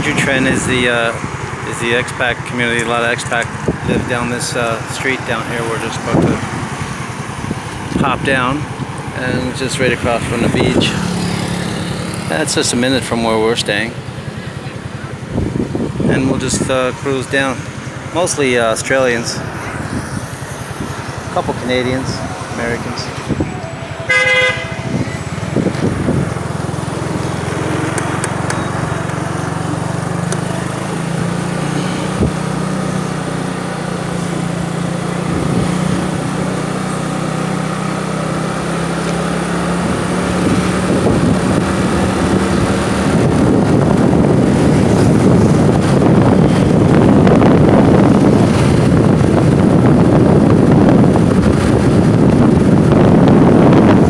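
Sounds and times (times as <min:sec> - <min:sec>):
motorbike engine running: 0:00.0 - 0:54.0
wind rushing over microphone: 0:00.0 - 0:54.0.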